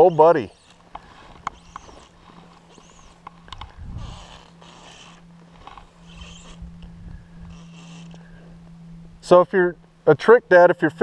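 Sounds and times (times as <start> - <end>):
fishing reel drag ratcheting: 0.0 - 9.0
faint low hum: 0.0 - 11.0.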